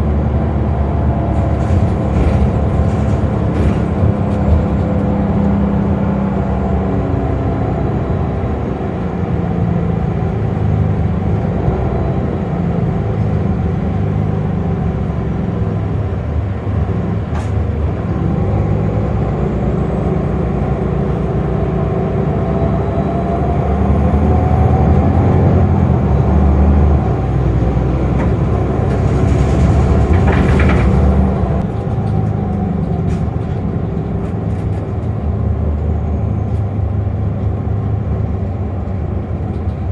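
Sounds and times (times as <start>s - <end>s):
bus engine rumble and whine: 0.0s - 39.9s.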